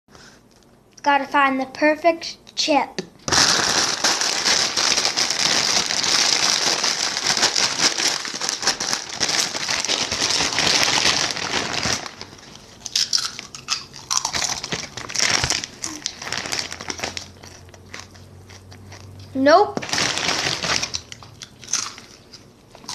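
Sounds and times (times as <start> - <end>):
crinkly chip bag crackling: 3.3 - 19.1, 19.8 - 22.9.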